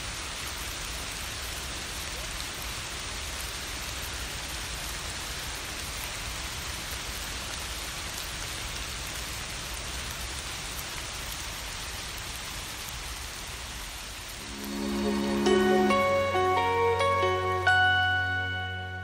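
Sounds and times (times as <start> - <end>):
rain patter: 0.0 - 19.0.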